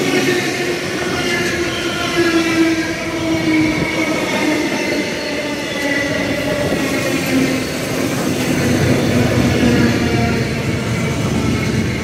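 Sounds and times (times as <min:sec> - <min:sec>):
train brakes squealing: 0:00.0 - 0:12.0
train wheels rumbling on rail: 0:00.0 - 0:12.0.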